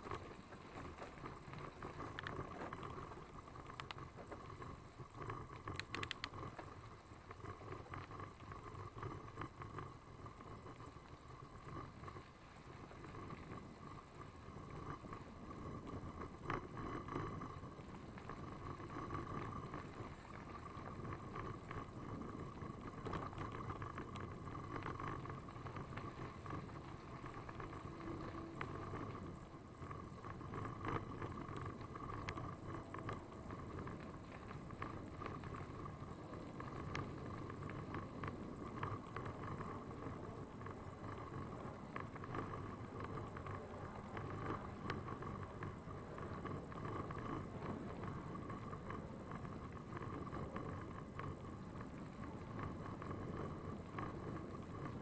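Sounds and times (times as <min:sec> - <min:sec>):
bicycle tyres on gravel: 0:00.0 - 0:55.0
bike rattles and clicks: 0:00.0 - 0:55.0.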